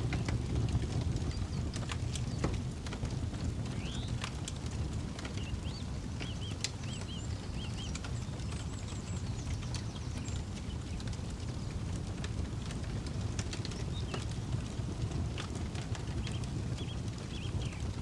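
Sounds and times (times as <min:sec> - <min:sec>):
burning wood snapping: 0:00.0 - 0:18.0
campfire crackling: 0:00.0 - 0:18.0.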